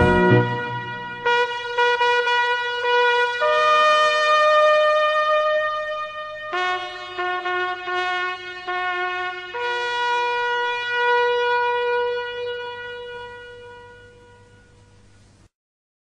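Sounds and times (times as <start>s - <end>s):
reedy wind instrument notes: 0.0s - 15.0s.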